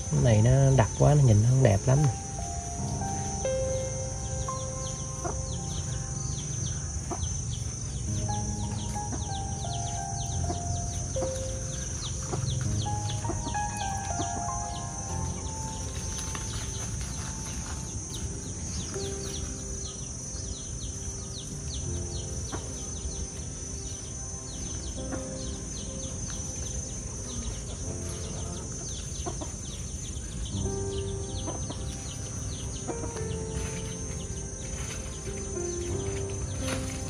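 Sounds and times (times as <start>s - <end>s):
birds chirping: 0.0s - 37.0s
high insect drone: 0.0s - 37.0s.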